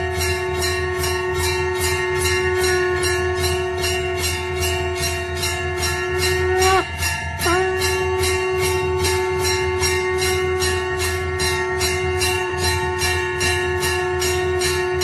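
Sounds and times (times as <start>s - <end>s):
held note: 0.0s - 15.0s
jingling bells beat: 0.0s - 15.0s.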